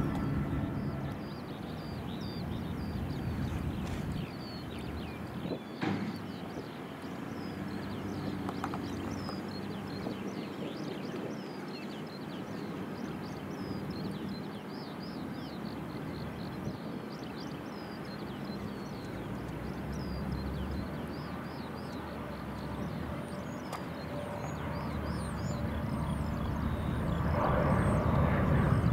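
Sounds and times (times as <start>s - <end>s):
distant jet engine rumble: 0.0s - 11.7s, 15.2s - 28.9s
small birds chirping: 0.0s - 28.9s.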